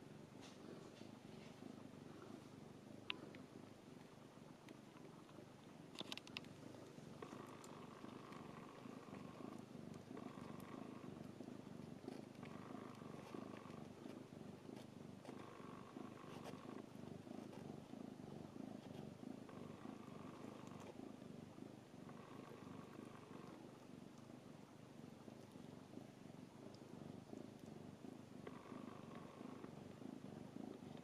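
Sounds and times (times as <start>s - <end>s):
cat purring: 0.0s - 31.0s.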